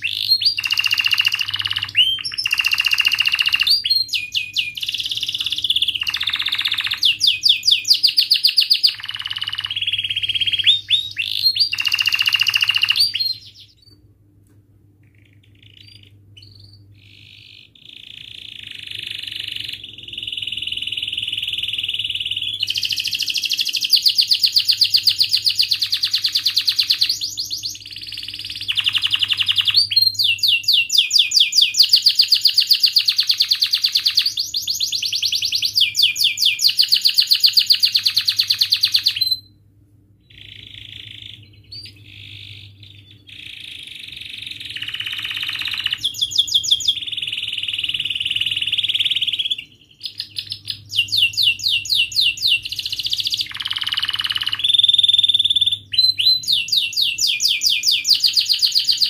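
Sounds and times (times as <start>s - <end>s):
canary singing trills: 0.0s - 14.0s, 15.0s - 39.6s, 40.2s - 59.0s.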